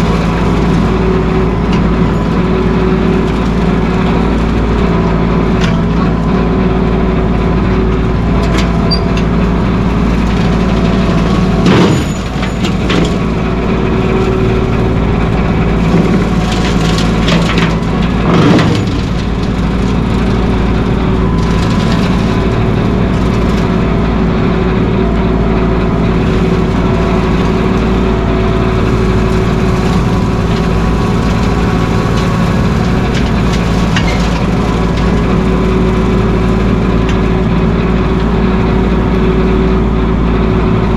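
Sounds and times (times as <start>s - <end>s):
clunks and rattles: 0.0s - 40.9s
tractor diesel engine running: 0.0s - 40.9s.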